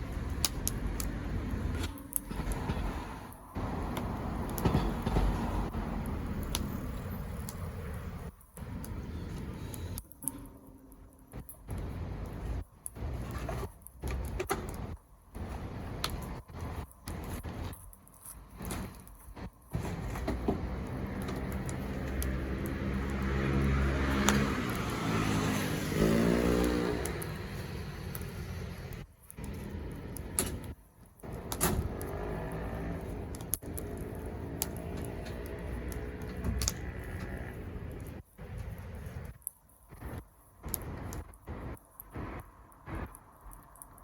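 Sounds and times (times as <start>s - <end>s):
bonfire crackling and popping: 0.0s - 44.0s.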